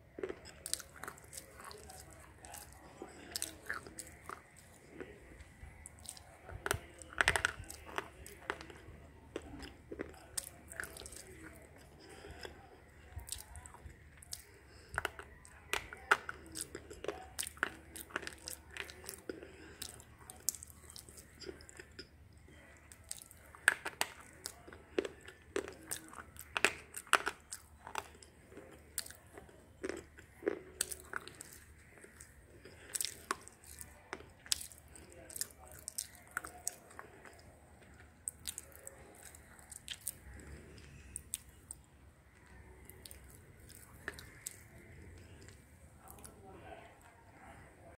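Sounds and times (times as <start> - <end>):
chewing sharp crunches: 0.0 - 46.4.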